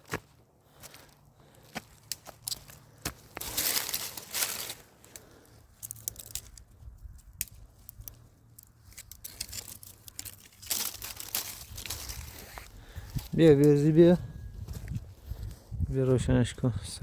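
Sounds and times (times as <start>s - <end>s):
rustling and crinkling: 0.0s - 16.3s.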